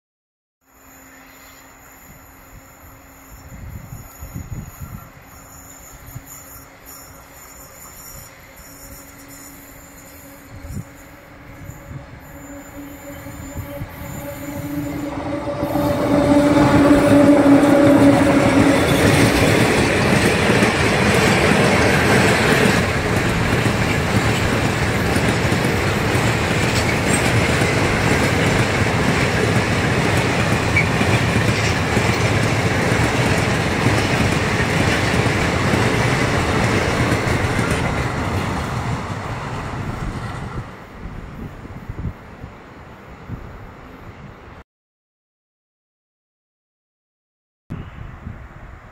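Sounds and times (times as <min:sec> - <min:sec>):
locomotive humming: 0:00.8 - 0:41.8
steel wheels rumbling on rail: 0:01.1 - 0:43.8.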